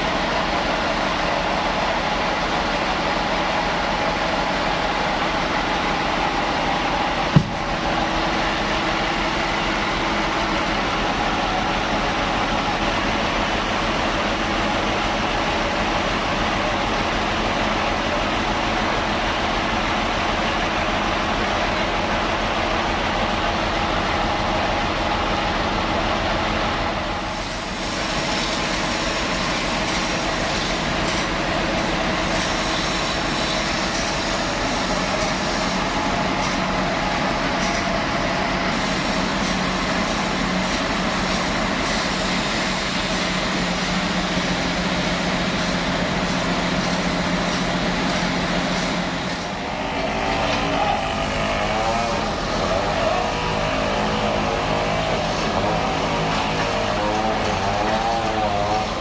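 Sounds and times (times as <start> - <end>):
band sawmill humming: 0.0 - 59.0.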